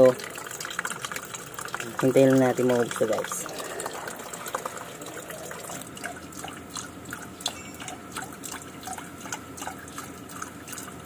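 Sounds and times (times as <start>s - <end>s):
fuel trickling into container: 0.0s - 11.0s.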